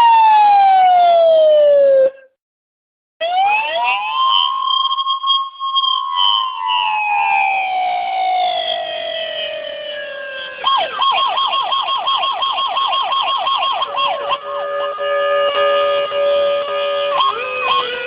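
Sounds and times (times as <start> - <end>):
police siren wailing and yelping: 0.0 - 2.3, 3.2 - 18.0.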